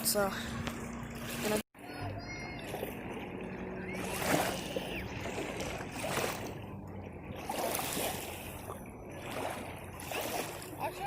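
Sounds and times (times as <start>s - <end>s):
lake water splashing and lapping: 0.0s - 11.0s.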